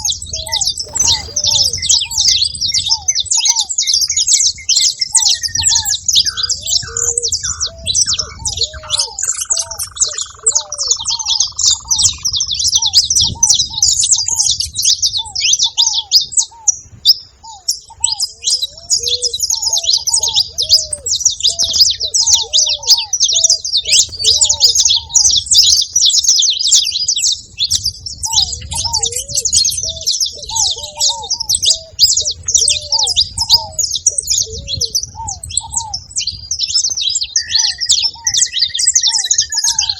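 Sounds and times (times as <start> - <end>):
dove cooing: 0.0 - 39.9
finches twittering: 0.0 - 39.9.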